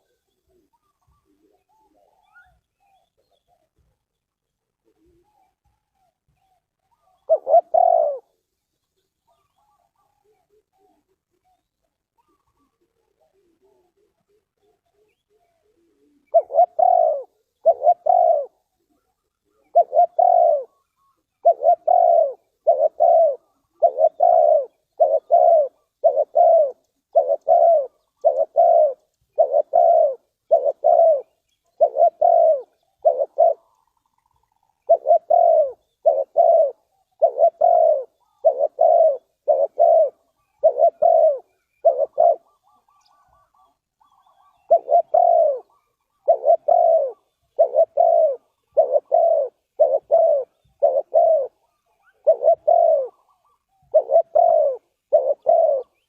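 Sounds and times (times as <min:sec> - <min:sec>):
dove cooing: 0:00.0 - 0:04.0, 0:04.6 - 0:56.0.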